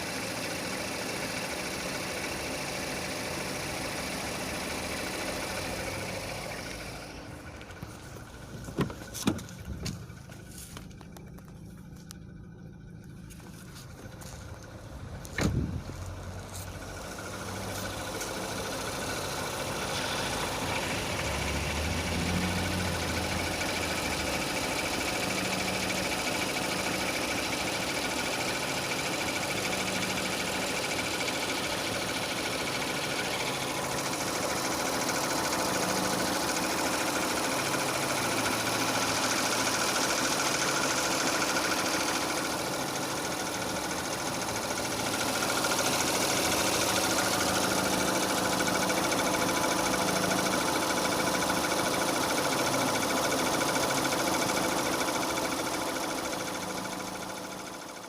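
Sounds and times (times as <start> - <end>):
car engine idling with knock: 0.0 - 58.0.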